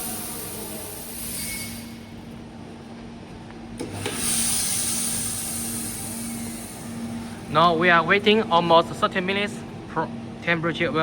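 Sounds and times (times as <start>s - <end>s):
constant machine hum: 0.0s - 11.0s.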